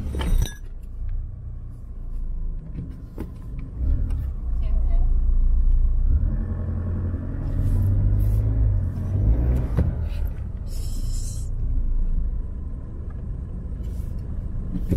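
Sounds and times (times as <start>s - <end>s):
diesel engine rumble: 0.0s - 14.9s.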